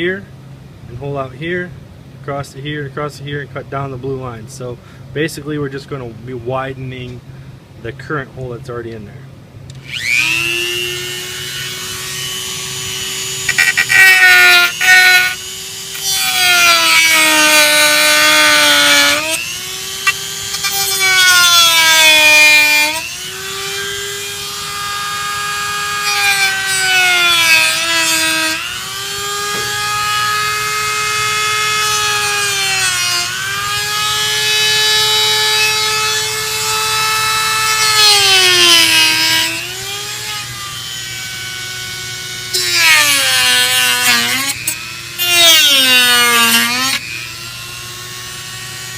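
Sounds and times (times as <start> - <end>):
gritty cutting noise: 9.7 - 48.9
rotary tool whining: 9.7 - 48.9.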